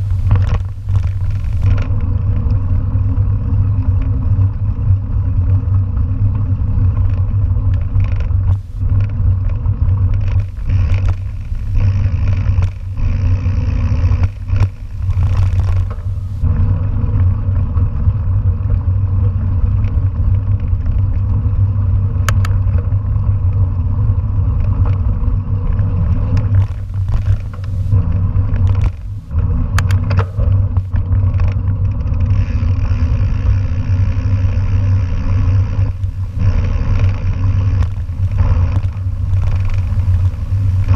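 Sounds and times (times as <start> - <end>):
bike rattling over bumps: 0.0 - 40.9
bike tyres rumbling on gravel: 0.0 - 40.9.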